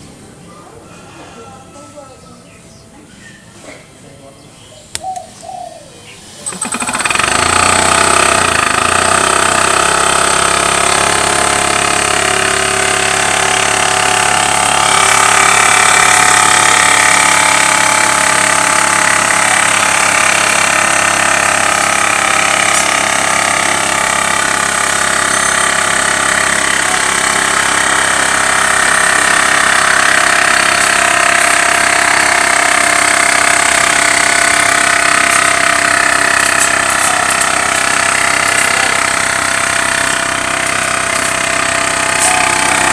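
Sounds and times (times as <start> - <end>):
air compressor running: 0.0 - 1.4, 6.2 - 42.9.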